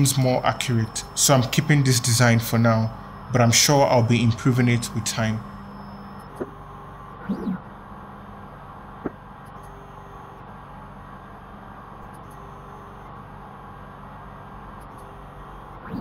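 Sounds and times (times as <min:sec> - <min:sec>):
short rising and falling whine: 0:00.0 - 0:16.0
steady machine hum: 0:00.0 - 0:16.0.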